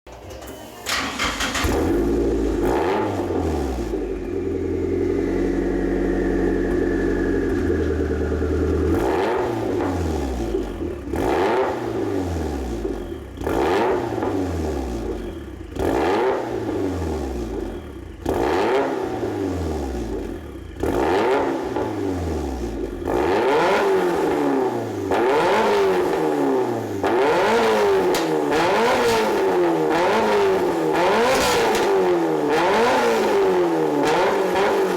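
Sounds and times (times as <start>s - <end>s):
car engine idling and revving: 0.4s - 34.9s.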